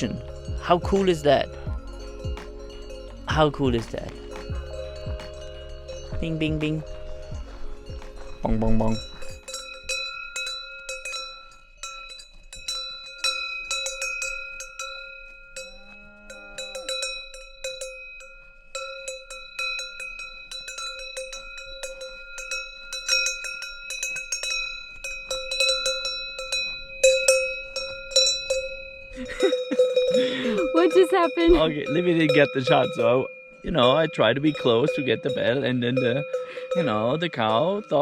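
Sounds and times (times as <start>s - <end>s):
cowbell clanking: 0.0s - 38.0s.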